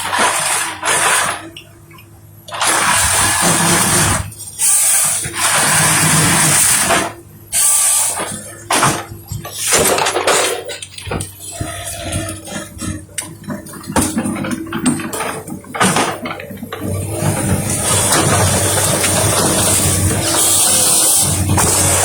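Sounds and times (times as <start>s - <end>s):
harvester engine humming: 0.0s - 22.0s.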